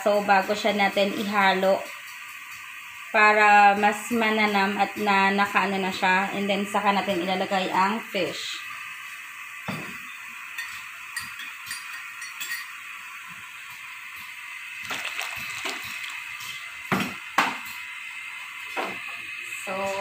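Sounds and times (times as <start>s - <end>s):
water boiling in a pot: 0.0s - 20.0s.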